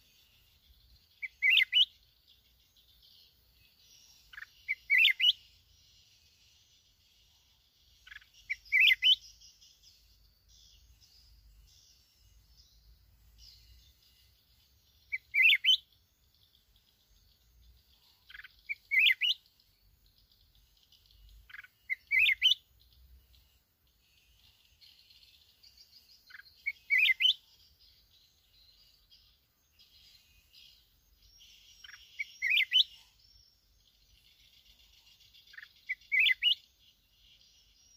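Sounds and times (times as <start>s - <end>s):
bird singing warbled phrases: 0.0s - 37.9s
faint high twittering: 0.0s - 37.9s.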